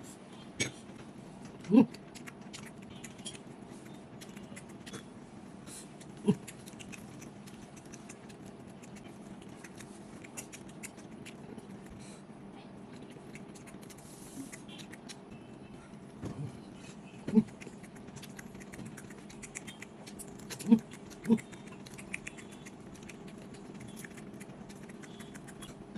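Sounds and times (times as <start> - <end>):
chewing with wet mouth clicks: 1.4 - 5.1, 5.7 - 12.2, 12.8 - 15.5, 17.3 - 25.9.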